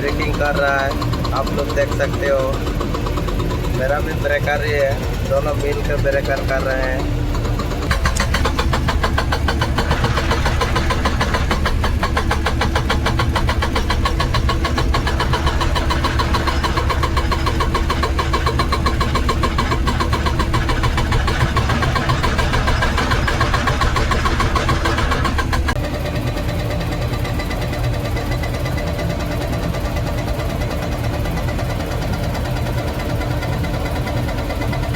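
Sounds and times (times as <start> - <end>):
diesel engine running: 0.0 - 34.9
hydraulic breaker hammering rock: 0.0 - 34.9.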